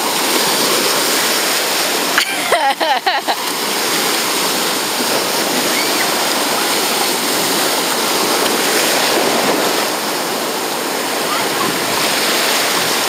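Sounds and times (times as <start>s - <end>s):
waves breaking: 0.0s - 13.0s.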